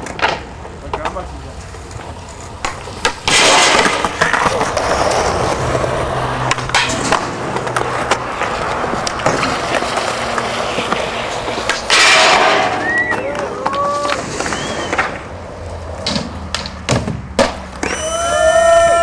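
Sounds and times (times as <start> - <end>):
skateboard clacks: 0.0 - 19.0
skateboard wheels rolling on concrete: 0.0 - 19.0.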